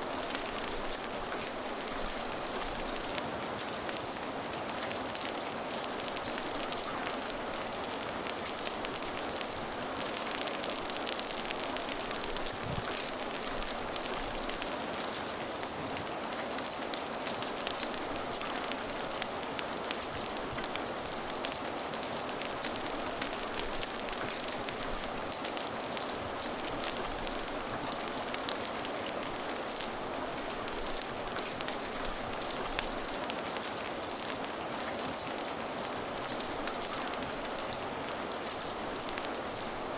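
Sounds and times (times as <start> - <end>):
fire crackling: 0.0 - 39.9
steady rain falling: 0.0 - 39.9.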